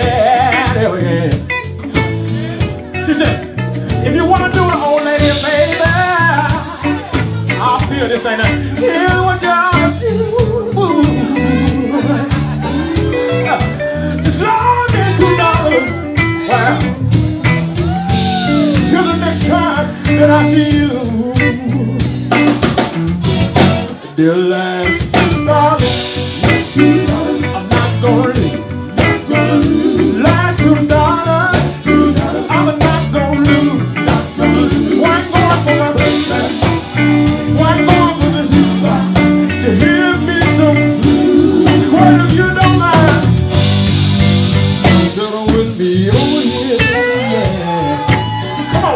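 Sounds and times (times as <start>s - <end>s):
person singing: 0.0s - 1.5s, 2.3s - 22.6s, 23.8s - 43.4s, 44.8s - 48.9s
drum kit: 0.0s - 48.9s
electric guitar: 0.0s - 48.9s
keyboards: 0.0s - 48.9s.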